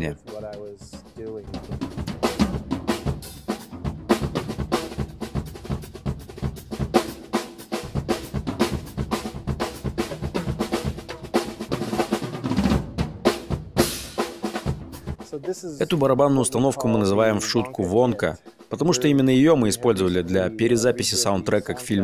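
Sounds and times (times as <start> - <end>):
drum kit played fast: 0.0 - 22.0.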